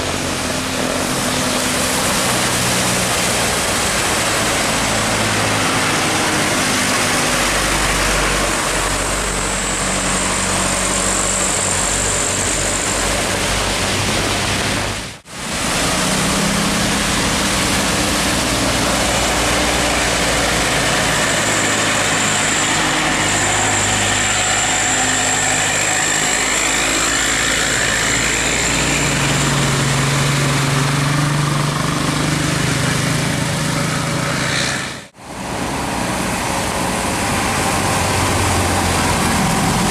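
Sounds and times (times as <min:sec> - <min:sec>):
bus engine running: 0:00.0 - 0:39.9
road noise rushing: 0:00.0 - 0:39.9.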